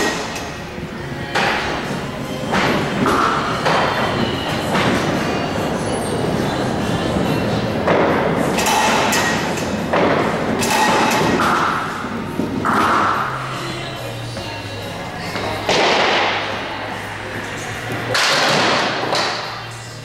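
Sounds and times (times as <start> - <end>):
bowling pins clattering: 0.0 - 19.9
echoing hall noise: 0.0 - 20.0
bowling balls thudding on lanes: 1.2 - 19.7.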